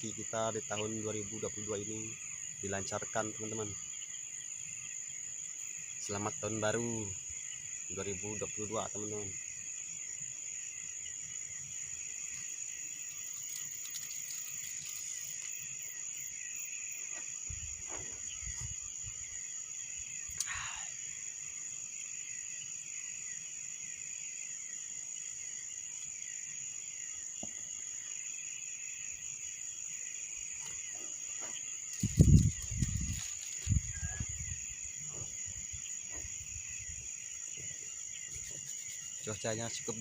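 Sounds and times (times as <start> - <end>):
crickets trilling: 0.0 - 40.0.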